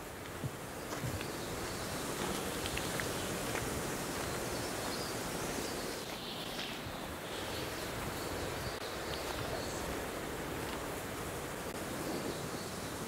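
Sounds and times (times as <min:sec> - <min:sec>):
grass and leaves rustling: 0:00.0 - 0:13.0
wind: 0:00.0 - 0:13.0.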